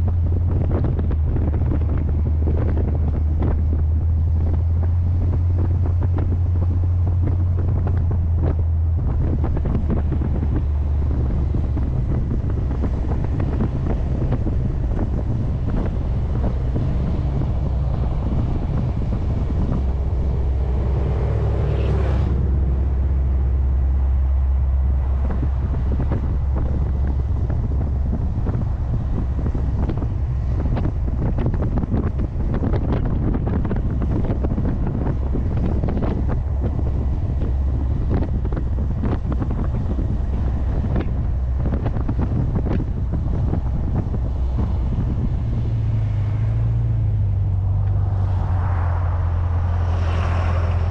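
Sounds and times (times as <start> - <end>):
car engine drone: 0.0 - 50.9
wind buffeting microphone: 0.0 - 50.9.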